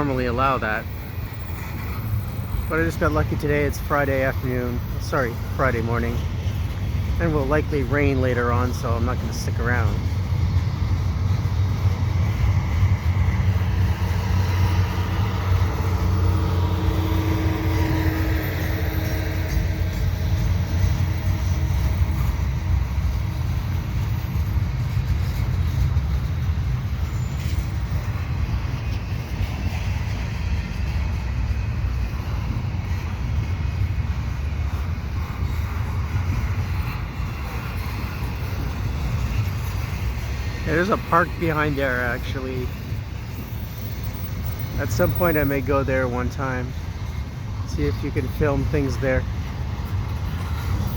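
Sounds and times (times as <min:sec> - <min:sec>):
steel wheels rumbling on rail: 0:00.0 - 0:50.9.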